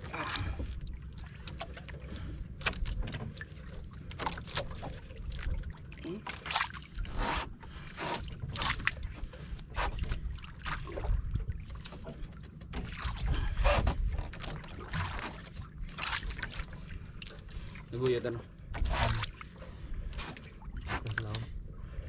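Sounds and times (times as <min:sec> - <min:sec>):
water splashing against boat hull: 0:00.0 - 0:22.0.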